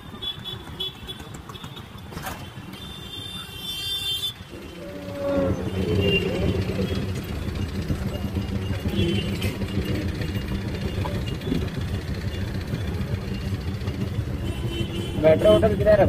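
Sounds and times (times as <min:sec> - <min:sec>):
auto rickshaw engine drone: 0:00.0 - 0:16.0
busy road noise: 0:00.0 - 0:16.0.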